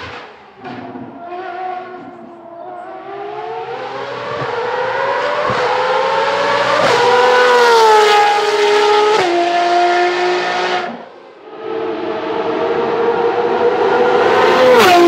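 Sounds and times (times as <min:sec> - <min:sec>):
sports car engine accelerating: 0:00.1 - 0:15.0.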